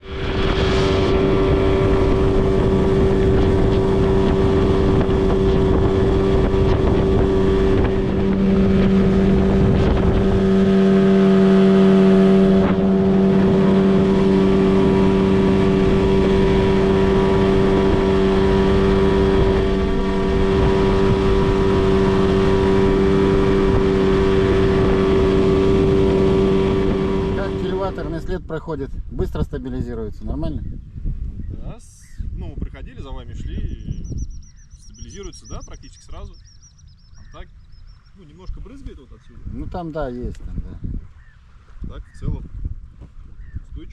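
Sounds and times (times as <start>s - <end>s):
outboard motor running: 0.0s - 28.4s, 34.1s - 43.6s
wind on microphone: 0.0s - 43.9s.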